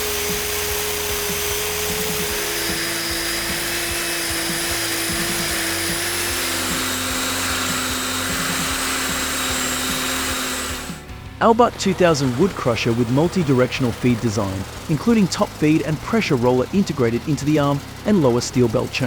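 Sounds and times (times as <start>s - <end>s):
wood chipper grinding timber: 0.0s - 19.0s.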